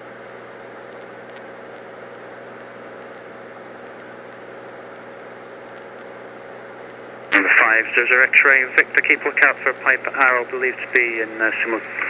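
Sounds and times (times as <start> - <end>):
propeller engine droning in cabin: 0.0 - 12.0.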